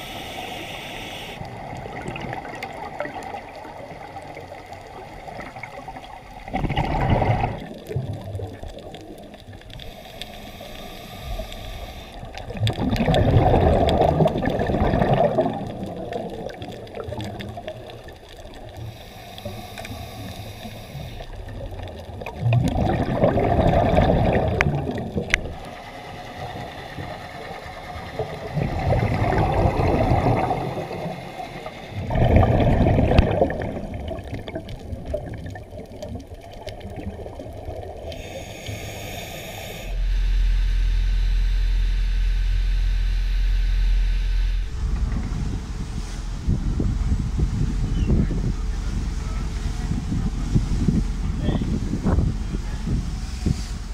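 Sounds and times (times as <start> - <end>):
low hiss: 0.0 - 36.9, 37.8 - 53.9
underwater exhaust bubbling: 0.0 - 53.9.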